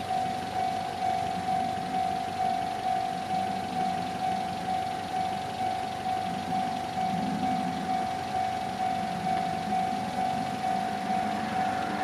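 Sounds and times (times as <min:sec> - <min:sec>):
level crossing warning bell: 0:00.0 - 0:12.0
vehicle engine idling: 0:00.0 - 0:12.0.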